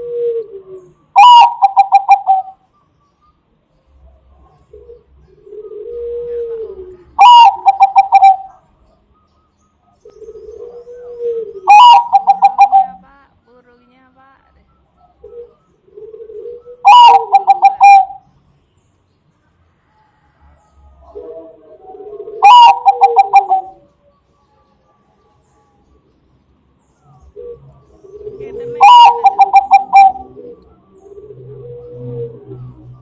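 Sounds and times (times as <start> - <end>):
dove cooing and ringing song: 0.0 - 13.0, 14.7 - 18.9, 20.0 - 33.0.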